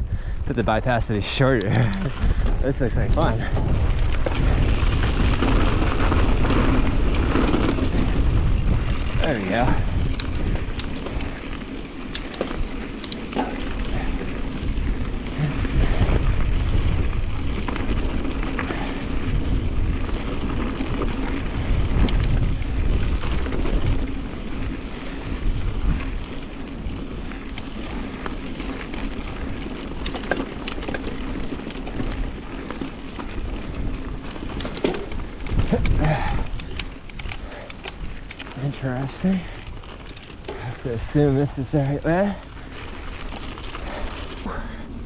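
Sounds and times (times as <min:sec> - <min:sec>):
bike ticks and rattles: 0:00.0 - 0:45.0
bike tyres rolling on dirt: 0:00.0 - 0:45.0
wind buffeting microphone: 0:00.0 - 0:45.0.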